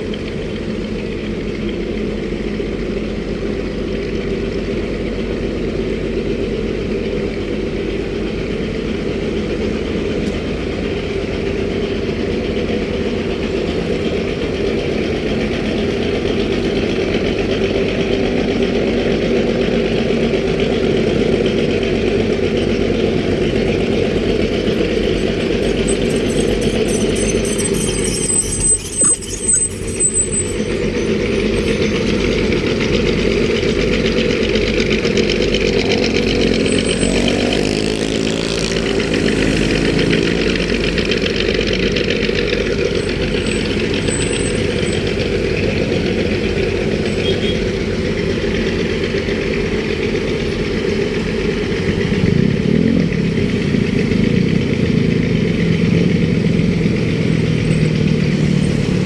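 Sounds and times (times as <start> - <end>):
engines running: 0.0 - 59.0
vehicles passing: 0.0 - 59.0.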